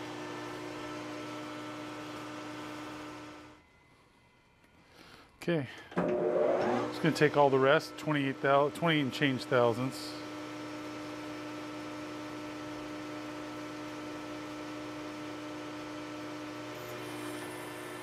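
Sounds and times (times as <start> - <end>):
metal lathe motor hum: 0.0 - 3.6, 6.0 - 18.0.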